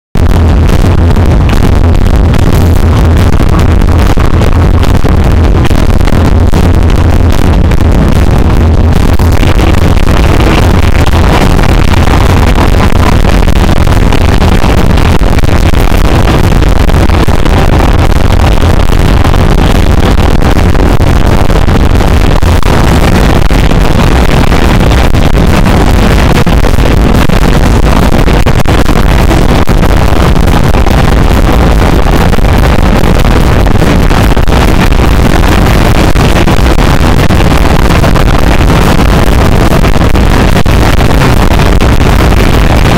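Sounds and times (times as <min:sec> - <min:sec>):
distorted live rock band: 0:00.2 - 0:42.9.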